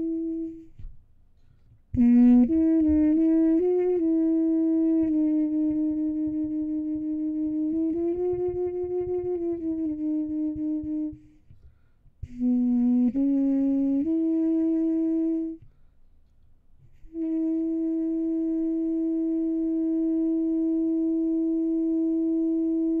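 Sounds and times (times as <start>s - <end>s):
muted trumpet: 0.0s - 0.9s, 1.9s - 11.6s, 12.2s - 15.7s, 16.9s - 23.0s.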